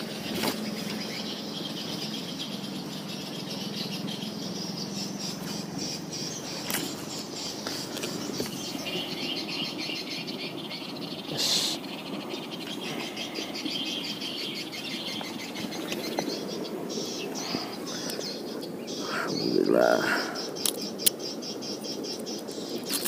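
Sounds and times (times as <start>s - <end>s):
birds chirping: 0.0s - 23.0s
insects calling: 0.0s - 23.0s.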